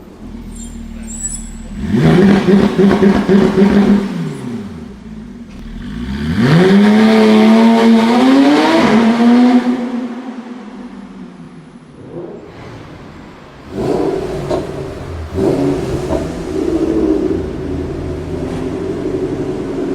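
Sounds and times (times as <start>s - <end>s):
car engine accelerating hard: 0.0s - 11.0s, 12.0s - 19.9s.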